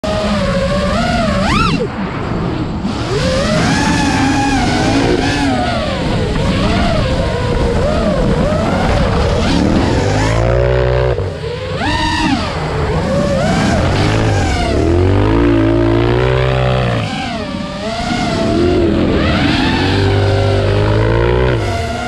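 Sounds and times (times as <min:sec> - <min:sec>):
motors revving with whine: 0:00.0 - 0:22.0
deep engine rumble: 0:01.6 - 0:22.0.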